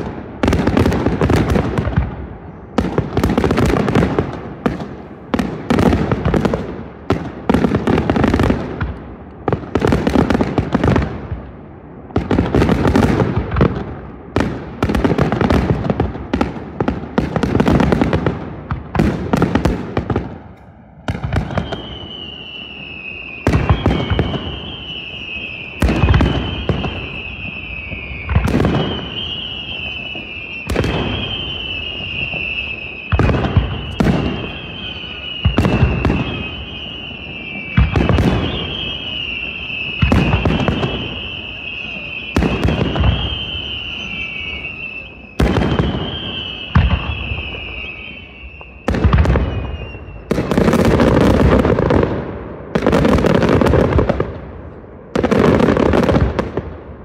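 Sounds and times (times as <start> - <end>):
descending firework whistle: 0.0 - 56.9
fireworks bursting with crackle: 0.0 - 57.0
heavy firework booms: 0.0 - 57.0.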